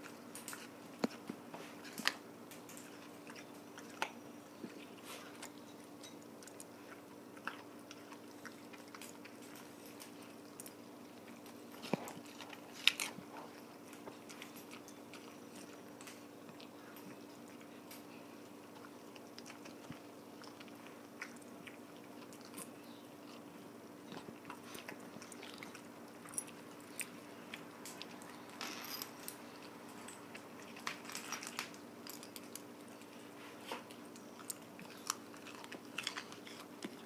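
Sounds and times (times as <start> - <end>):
dog chewing carrot: 0.0 - 28.5, 31.6 - 37.0
faint steady hum: 0.0 - 37.0.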